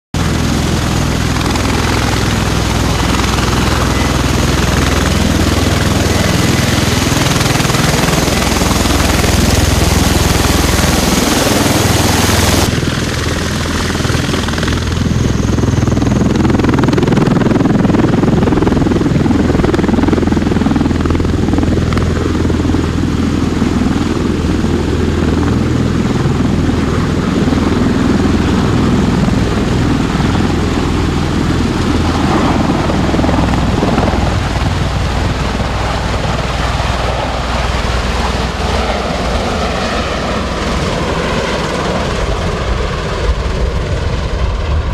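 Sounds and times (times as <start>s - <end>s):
tiltrotor aircraft roaring: 0.2s - 44.9s.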